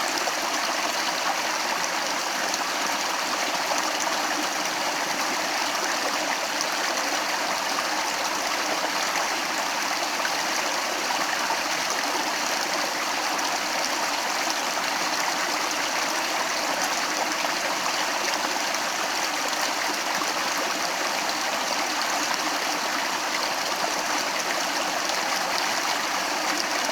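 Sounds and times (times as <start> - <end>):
water stream flowing over rocks: 0.0 - 26.9.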